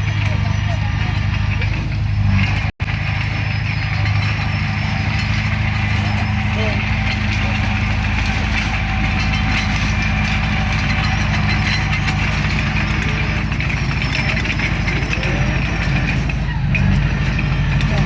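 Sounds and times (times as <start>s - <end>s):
bulldozer diesel engine running: 0.0s - 18.0s
fine rattle: 1.2s - 18.0s.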